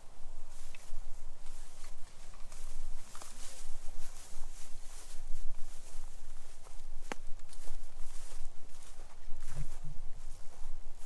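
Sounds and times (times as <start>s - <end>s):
footsteps through dry grass: 0.0s - 11.0s.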